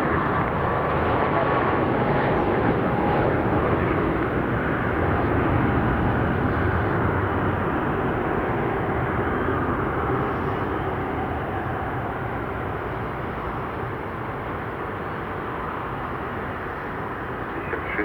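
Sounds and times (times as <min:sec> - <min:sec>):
jet engine rush: 0:00.0 - 0:18.0.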